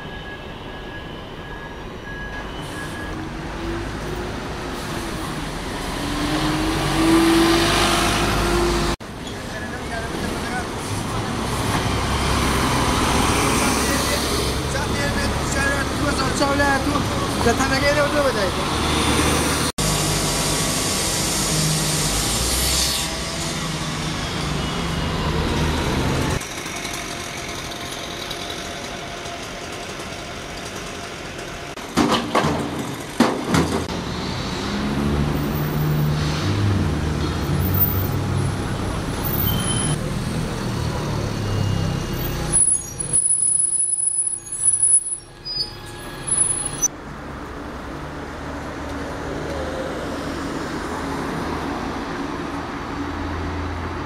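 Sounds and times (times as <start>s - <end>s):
buses passing: 0.0s - 54.0s
road traffic: 0.0s - 54.0s.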